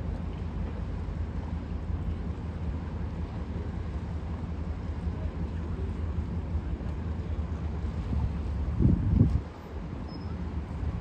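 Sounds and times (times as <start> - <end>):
boat diesel engine rumble: 0.0 - 11.0
river and city hum: 0.0 - 11.0.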